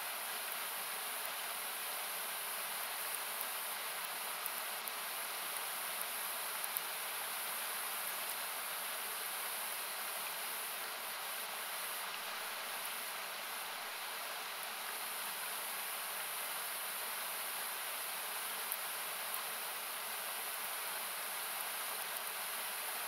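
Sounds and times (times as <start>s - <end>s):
faint campfire crackle: 0.0s - 23.0s
river rushing hiss: 0.0s - 23.0s.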